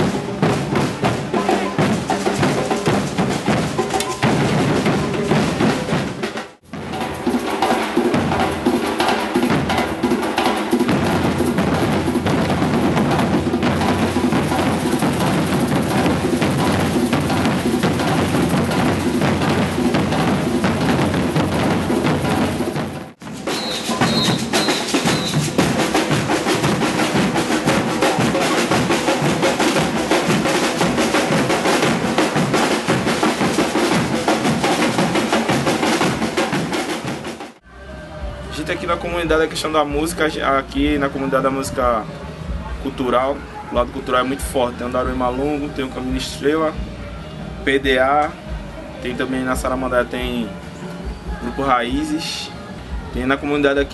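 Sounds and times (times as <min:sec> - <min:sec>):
bass and snare drums playing: 0:00.0 - 0:37.6, 0:38.2 - 0:53.9.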